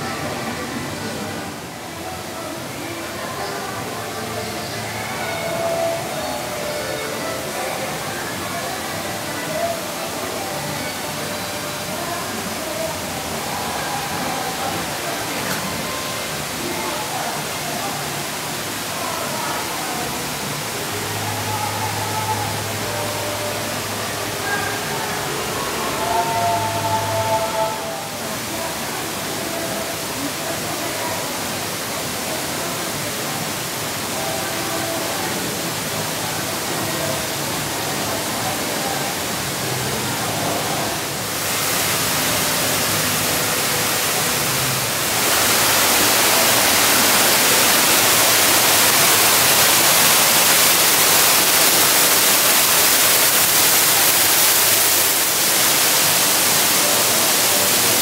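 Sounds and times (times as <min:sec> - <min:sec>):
faint voices: 0:00.0 - 0:58.0.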